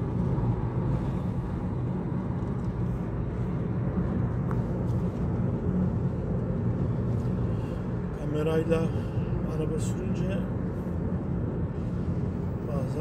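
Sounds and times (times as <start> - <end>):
car engine rumble: 0.0 - 13.0
tyres on asphalt: 0.0 - 13.0.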